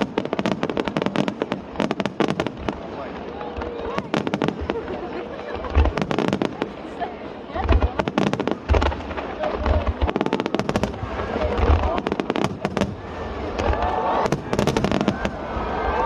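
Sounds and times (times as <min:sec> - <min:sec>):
firework booms: 0:00.0 - 0:06.9, 0:07.6 - 0:16.0
firework crackling: 0:00.0 - 0:16.0.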